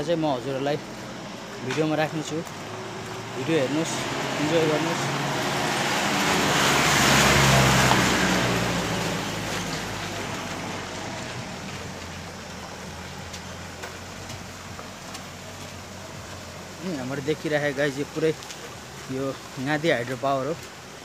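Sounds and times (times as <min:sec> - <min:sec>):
vehicle passing by: 0:00.0 - 0:20.8.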